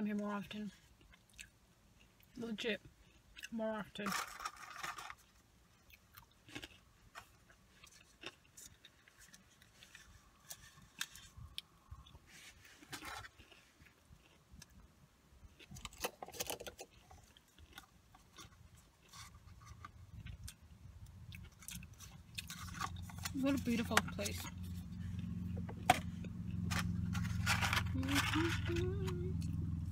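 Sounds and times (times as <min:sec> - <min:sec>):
chewing food with crunches: 0:00.0 - 0:29.9.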